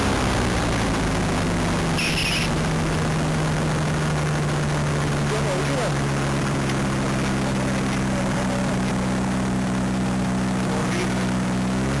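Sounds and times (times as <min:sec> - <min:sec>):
ultralight engine and propeller: 0:00.0 - 0:12.0.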